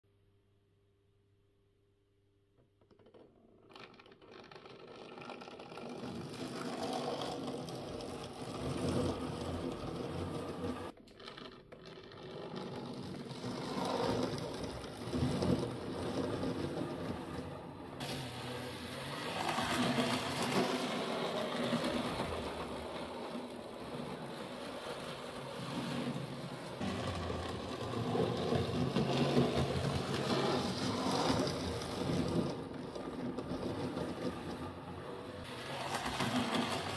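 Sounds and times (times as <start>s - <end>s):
model train wheels clattering: 2.9s - 36.9s.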